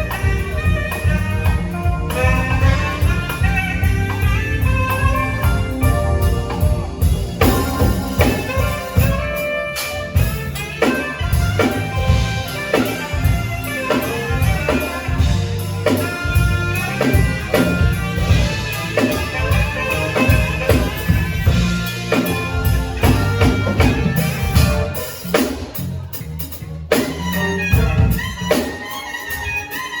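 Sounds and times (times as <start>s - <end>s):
instrumental band music: 0.0s - 30.0s.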